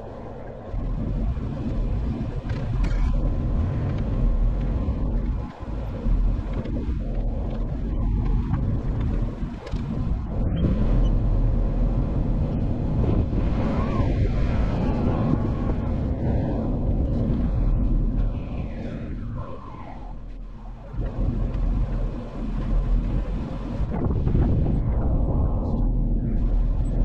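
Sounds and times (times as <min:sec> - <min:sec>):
off-road vehicle engine rumble: 0:00.0 - 0:27.0
wind buffeting microphone: 0:00.0 - 0:27.0.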